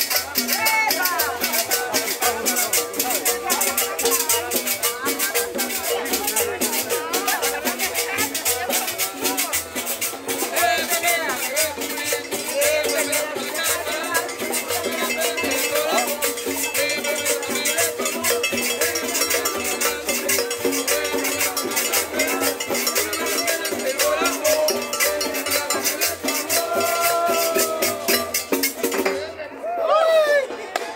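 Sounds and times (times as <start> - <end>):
conga drums and hand percussion: 0.0 - 30.9.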